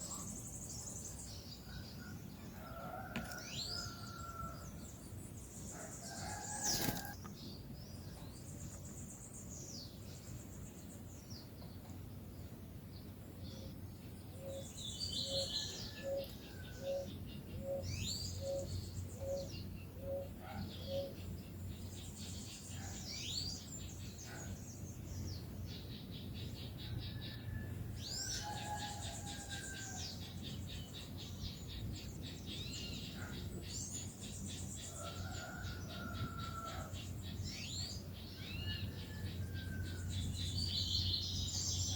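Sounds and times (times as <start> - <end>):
birds singing and calling: 0.0 - 41.9.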